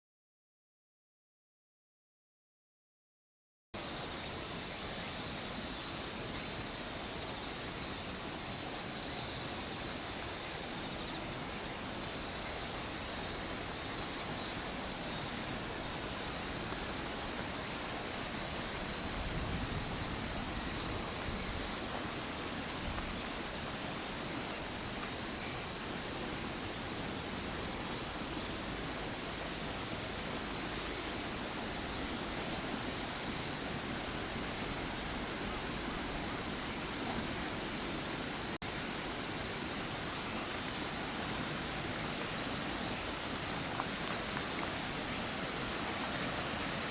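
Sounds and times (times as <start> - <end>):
constant even hiss: 3.8 - 46.9
insects chirping: 3.8 - 46.9.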